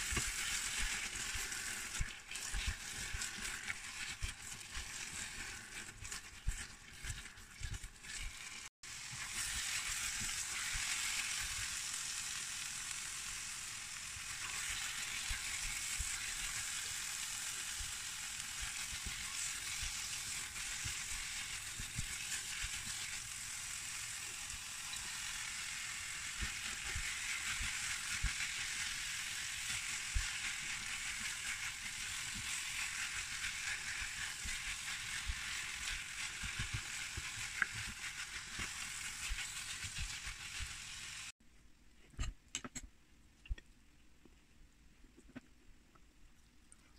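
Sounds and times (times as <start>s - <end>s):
food sizzling in a frying pan: 0.0s - 41.4s.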